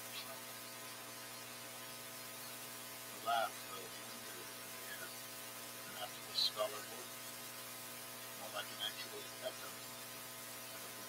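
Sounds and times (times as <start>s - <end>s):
electrical mains hum with hiss: 0.0s - 11.0s.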